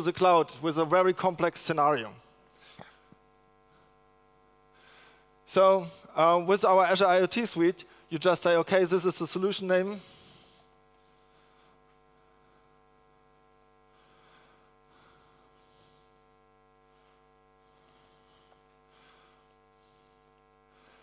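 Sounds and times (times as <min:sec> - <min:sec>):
faint electrical mains hum: 0:00.0 - 0:21.0.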